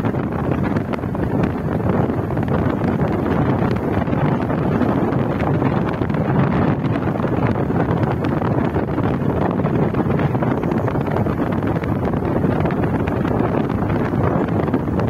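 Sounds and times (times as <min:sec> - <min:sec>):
vehicle road noise: 0:00.0 - 0:15.0
wind buffeting microphone: 0:00.0 - 0:15.0.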